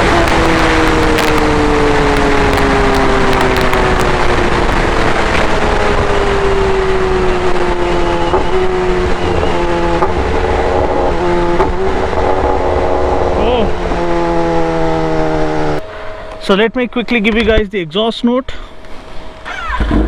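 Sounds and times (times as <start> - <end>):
motorcycle engine running: 0.0 - 17.6
wind and road noise rushing: 0.0 - 19.6.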